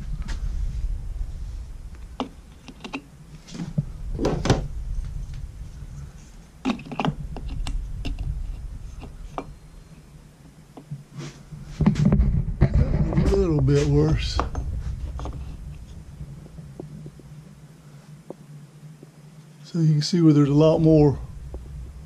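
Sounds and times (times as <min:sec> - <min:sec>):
low handling rumble: 0:00.0 - 0:22.0.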